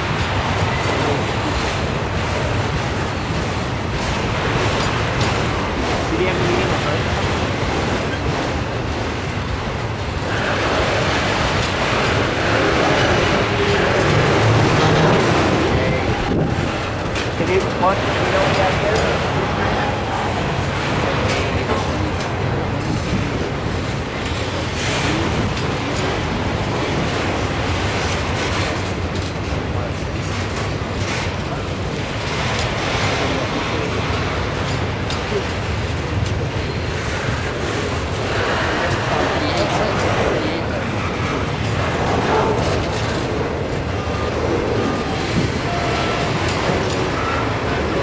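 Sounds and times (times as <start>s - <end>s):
freight train wheels rumbling on rail: 0.0s - 48.0s.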